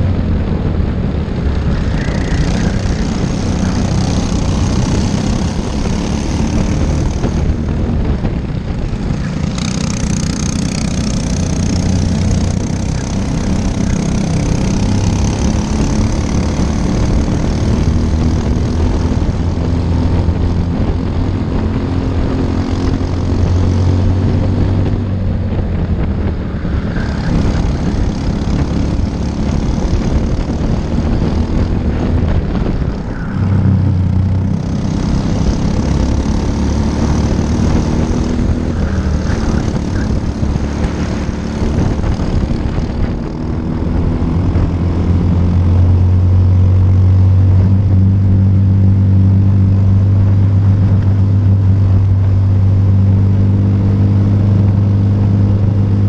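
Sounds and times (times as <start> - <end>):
kart engine revving: 0.0 - 56.0
other kart engines: 0.0 - 56.0.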